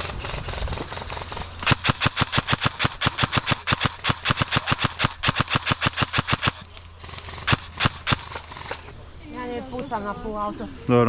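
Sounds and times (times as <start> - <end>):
airsoft gun full-auto burst: 0.0 - 8.9.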